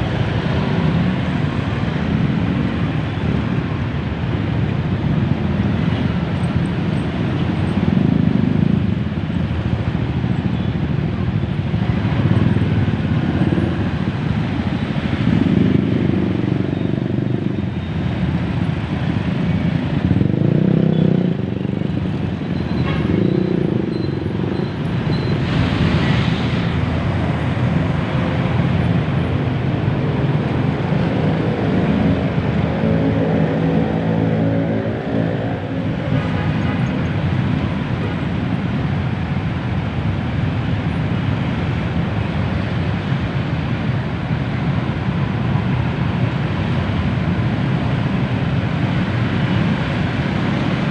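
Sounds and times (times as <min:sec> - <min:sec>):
traffic engines rumbling: 0:00.0 - 0:50.9.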